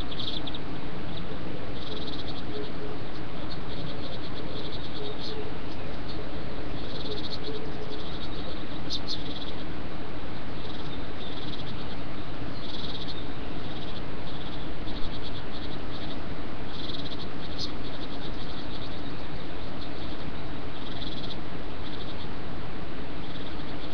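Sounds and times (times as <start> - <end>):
microphone hiss: 0.0 - 23.9.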